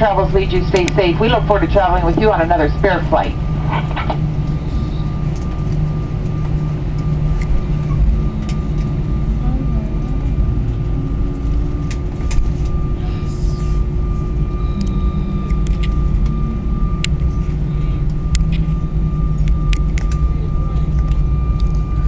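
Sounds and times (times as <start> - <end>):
jet engine high whine: 0.0 - 22.0
jet engines idling rumble: 0.0 - 22.0.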